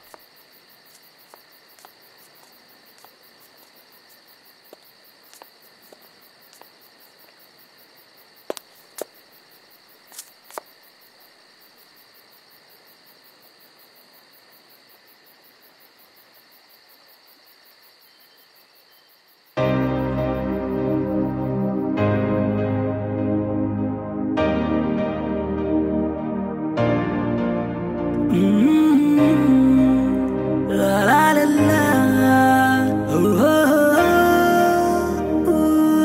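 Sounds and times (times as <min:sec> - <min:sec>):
crickets chirping: 0:00.0 - 0:24.5, 0:26.2 - 0:36.0.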